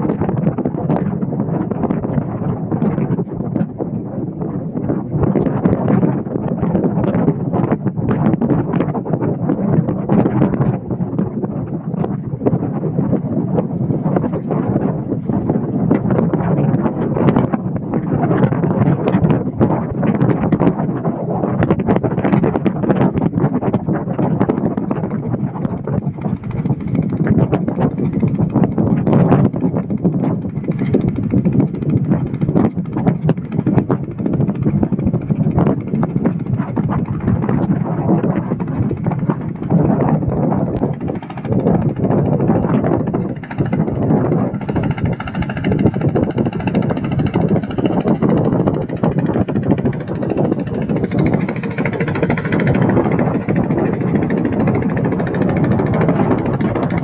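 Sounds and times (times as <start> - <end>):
boat engine running: 0.0 - 57.0
wind buffeting microphone: 0.0 - 57.0.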